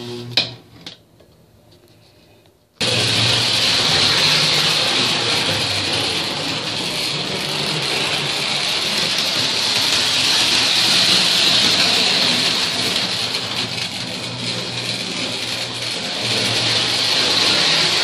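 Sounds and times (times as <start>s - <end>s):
toy train wheels and motor hiss: 2.8s - 18.0s.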